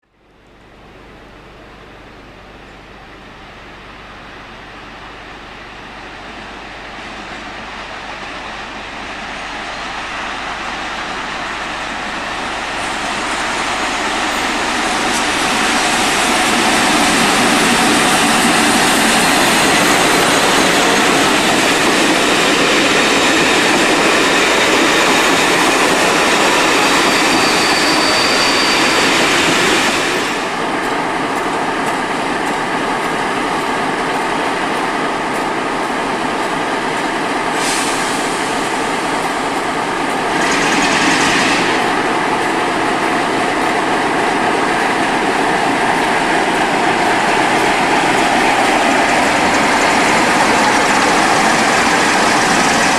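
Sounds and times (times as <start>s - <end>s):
diesel train passing: 0.1s - 52.9s.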